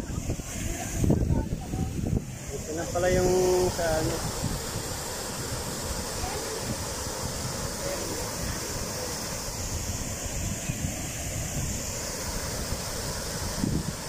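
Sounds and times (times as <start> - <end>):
water rushing over weir: 0.0 - 14.0
wind buffeting microphone: 0.0 - 14.0.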